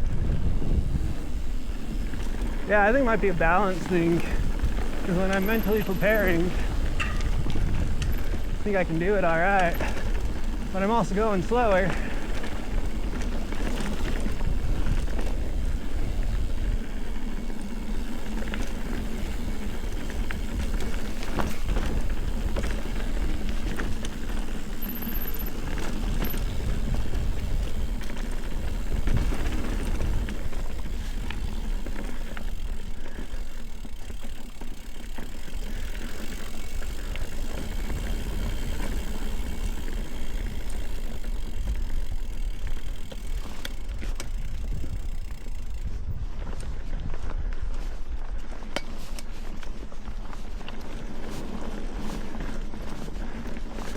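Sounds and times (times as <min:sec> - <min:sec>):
bike rattles and clicks: 0:00.0 - 0:53.9
bike tyre rumble on dirt: 0:00.0 - 0:53.9.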